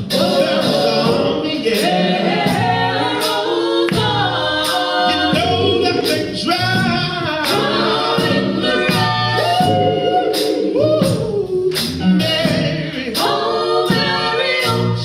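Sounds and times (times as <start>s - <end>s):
gospel choir singing: 0.0s - 15.0s
sharp percussive beat: 0.0s - 15.0s.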